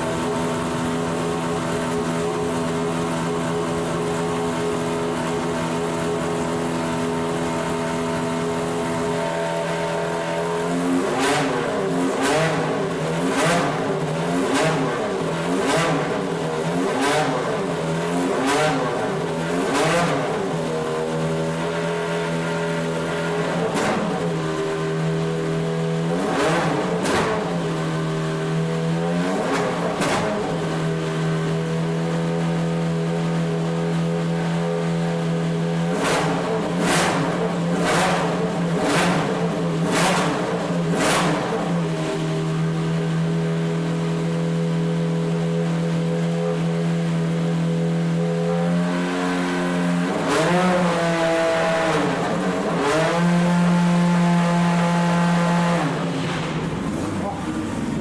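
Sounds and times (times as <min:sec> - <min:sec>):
race car engine idling and revving: 0:00.0 - 0:58.0.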